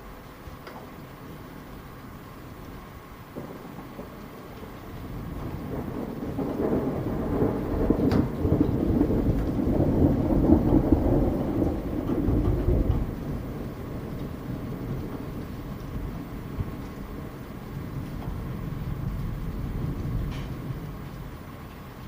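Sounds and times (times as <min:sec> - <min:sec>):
steady rain: 0:00.0 - 0:22.0
thunder rolling: 0:03.3 - 0:21.4.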